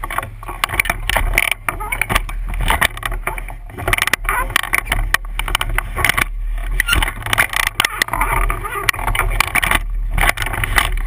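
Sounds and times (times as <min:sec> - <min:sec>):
knocks and clatter: 0:00.0 - 0:11.0.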